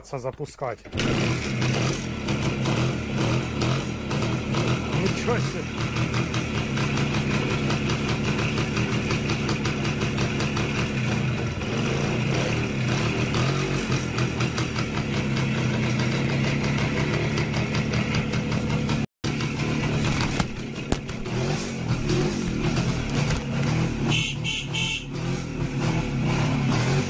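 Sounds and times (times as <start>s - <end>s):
motorcycle engine idling: 1.0s - 25.8s.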